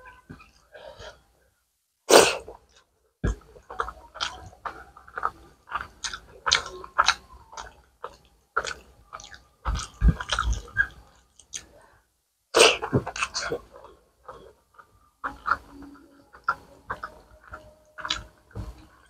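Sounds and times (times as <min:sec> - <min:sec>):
open-mouthed chewing: 0:02.3 - 0:11.8, 0:12.6 - 0:19.0.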